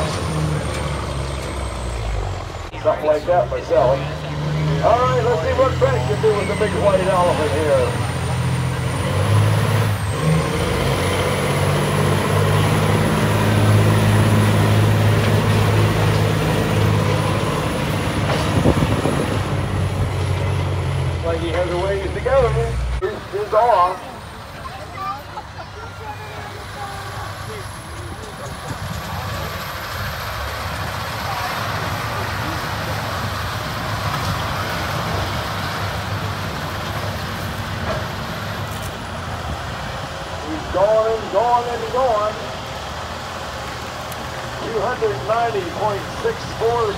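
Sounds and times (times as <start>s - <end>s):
diesel truck engine under load: 0.0s - 46.9s.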